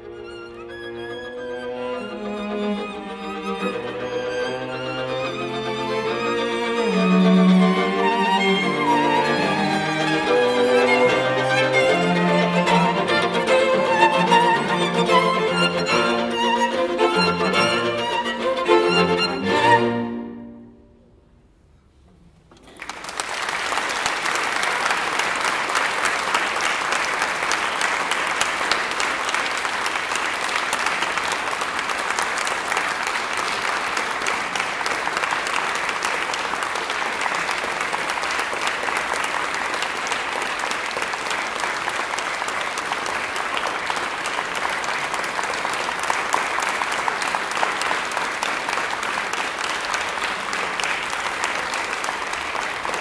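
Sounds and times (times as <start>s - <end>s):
audience applauding: 0.0s - 20.0s, 22.6s - 53.0s.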